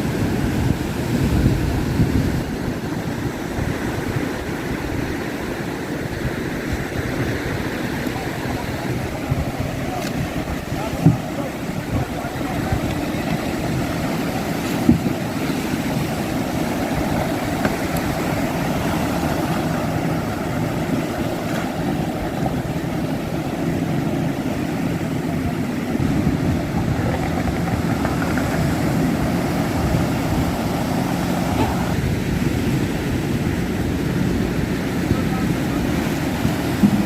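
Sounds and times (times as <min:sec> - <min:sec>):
boat motor droning: 0:00.0 - 0:37.0.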